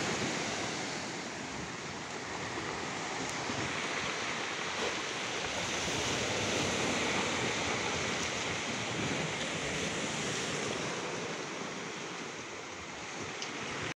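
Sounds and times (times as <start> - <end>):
sea water washing and churning: 0.0 - 13.9.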